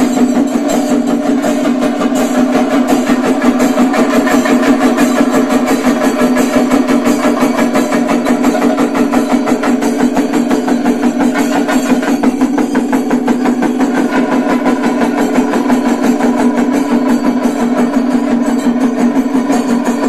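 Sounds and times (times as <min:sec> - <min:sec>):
drums beaten with sticks: 0:00.0 - 0:20.0.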